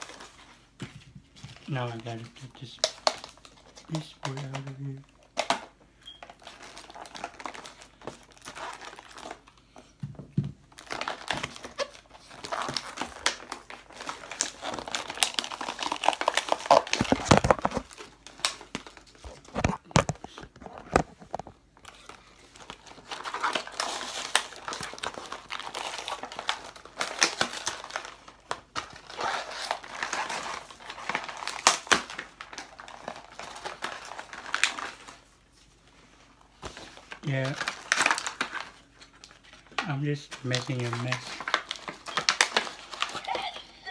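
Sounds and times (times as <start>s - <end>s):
packaging tearing and crinkling: 0.0s - 0.4s, 6.2s - 9.5s, 10.7s - 35.3s, 36.6s - 43.9s.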